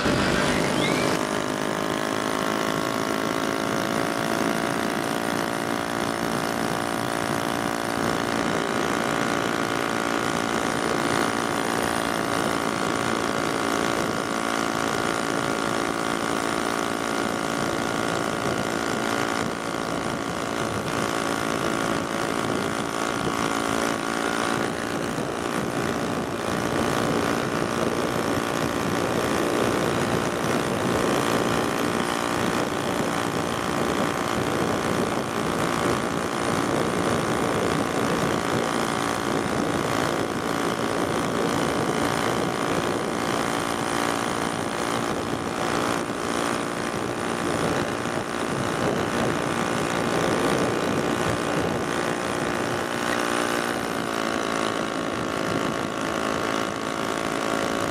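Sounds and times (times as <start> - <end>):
moped engine running: 0.0 - 57.9.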